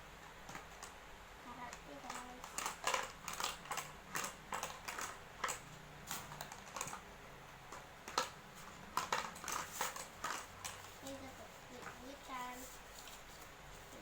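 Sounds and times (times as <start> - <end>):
packaging clicks and rustles: 1.7 - 7.1, 7.7 - 14.0.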